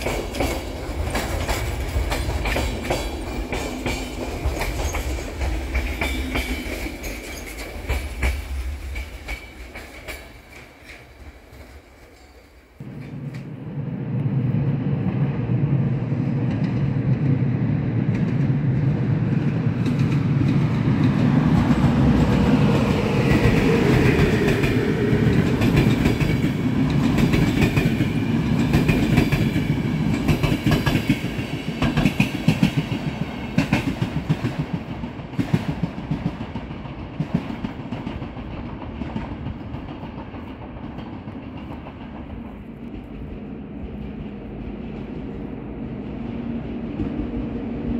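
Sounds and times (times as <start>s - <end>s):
train wheels clicking over rail joints: 0.0s - 13.5s, 18.1s - 45.6s
electric locomotive hum: 0.0s - 47.9s.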